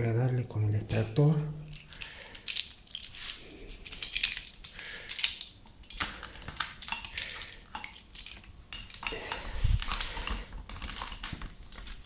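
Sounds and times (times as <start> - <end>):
metallic clicks of tools and parts: 1.7 - 12.0.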